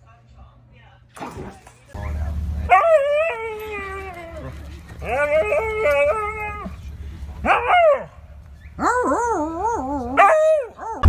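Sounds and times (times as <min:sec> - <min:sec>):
dog howling and whining: 0:02.0 - 0:11.0.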